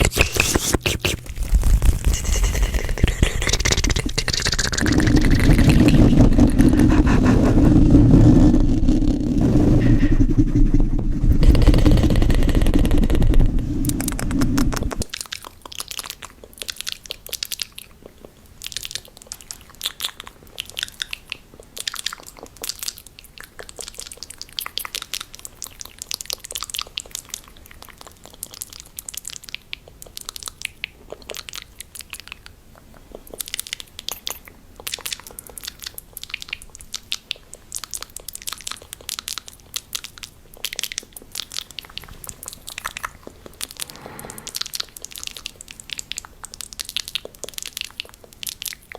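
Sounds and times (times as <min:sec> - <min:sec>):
mouth clicks and smacks: 0:00.0 - 0:07.9, 0:11.2 - 0:43.8, 0:44.5 - 0:48.9.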